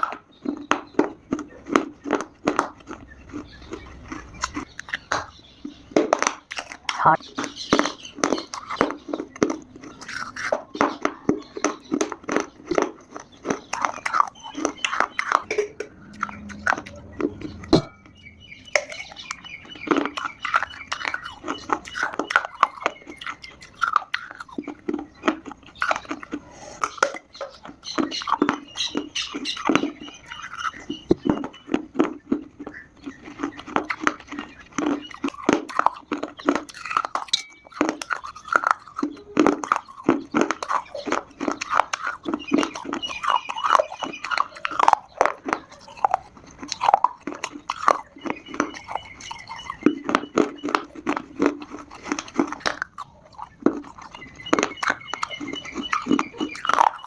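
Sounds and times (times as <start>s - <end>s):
chewing and crunching clay: 0.0s - 57.0s.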